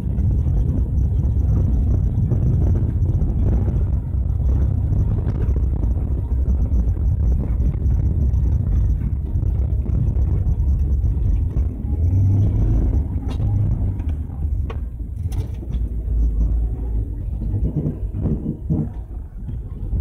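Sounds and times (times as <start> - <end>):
van engine and tyres rumbling: 0.0 - 20.0.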